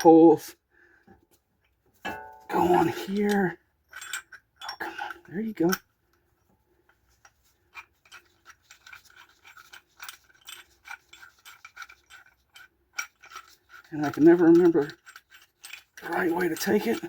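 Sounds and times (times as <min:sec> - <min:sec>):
faint metallic clicks and scrapes: 0:01.0 - 0:17.0.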